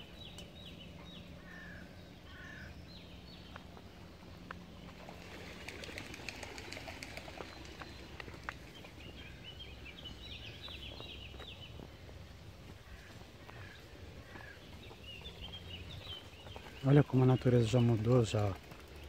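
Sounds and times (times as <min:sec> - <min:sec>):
steady low rumble: 0:00.0 - 0:16.9
songbirds chirping: 0:00.0 - 0:19.0.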